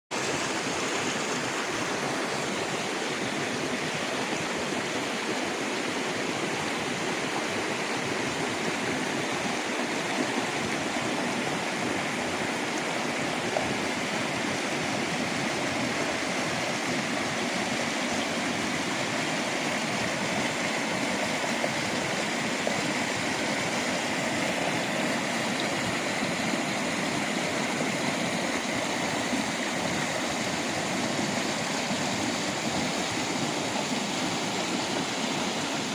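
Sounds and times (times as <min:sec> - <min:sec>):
mountain stream rushing: 0:00.1 - 0:35.9.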